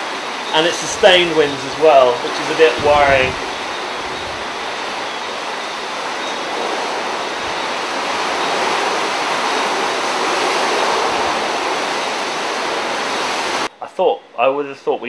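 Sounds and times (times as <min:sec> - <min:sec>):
wind blowing through trees: 0:00.0 - 0:13.7.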